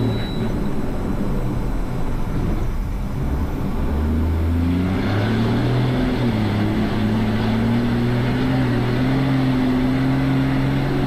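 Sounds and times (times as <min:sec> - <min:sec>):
diesel engine running hard: 0:00.0 - 0:11.0
drivetrain and cab noise: 0:00.0 - 0:11.0.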